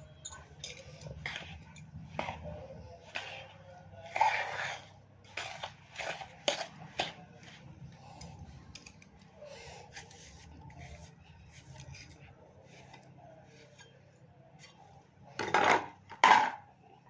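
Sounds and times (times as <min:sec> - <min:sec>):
flour stirred in a vessel: 0:00.0 - 0:15.4.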